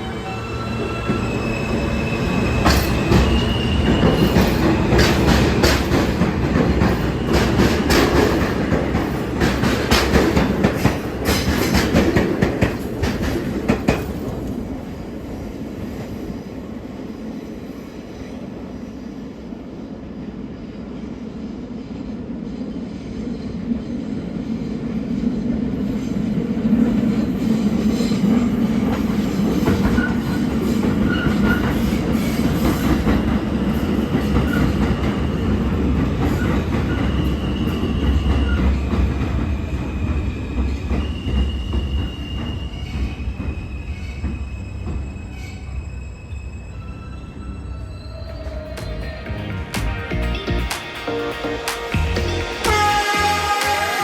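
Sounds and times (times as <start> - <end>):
subway wheels clattering over rail joints: 0.0 - 19.3, 21.8 - 49.7
train rumble: 0.0 - 20.5, 23.1 - 54.0.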